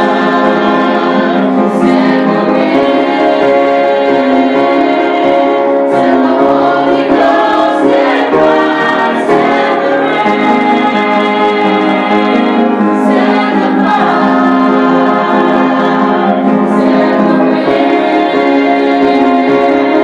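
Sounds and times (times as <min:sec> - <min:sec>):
women's vocal ensemble singing gospel: 0:00.0 - 0:20.0.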